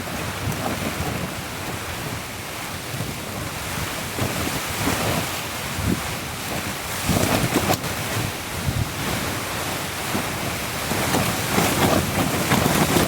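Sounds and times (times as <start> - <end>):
rain falling: 0.0 - 13.0
wind buffeting microphone: 0.0 - 13.0.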